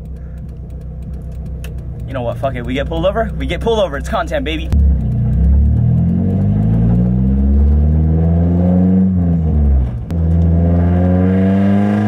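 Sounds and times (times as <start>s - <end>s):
loud car exhaust accelerating: 0.0s - 12.0s.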